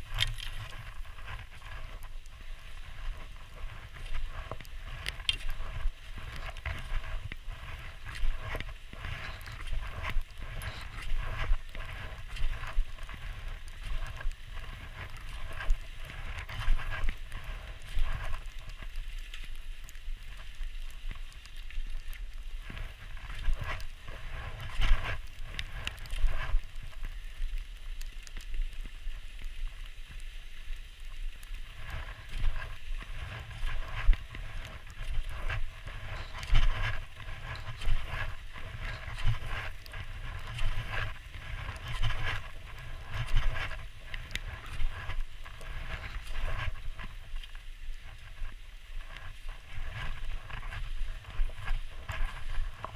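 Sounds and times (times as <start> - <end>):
skis sliding over snow: 0.0 - 52.9
wind rumble on microphone: 0.0 - 52.9.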